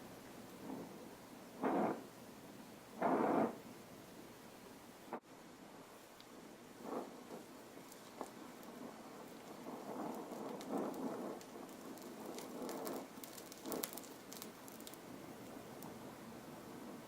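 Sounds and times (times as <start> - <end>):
molten metal crackling and popping: 0.0 - 2.2, 5.0 - 17.0
torch flame hissing: 0.5 - 2.2, 2.9 - 3.8, 5.1 - 17.0.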